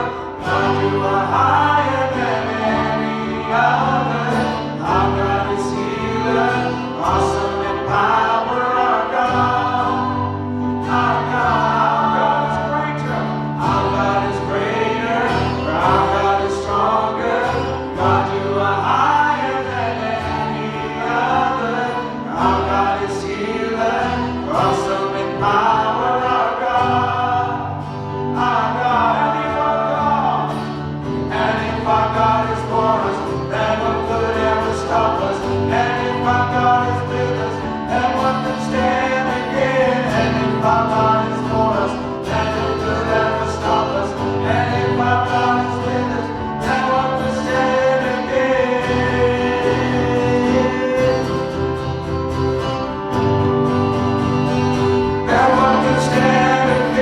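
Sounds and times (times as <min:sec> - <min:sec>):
group of voices singing: 0:00.0 - 0:57.0.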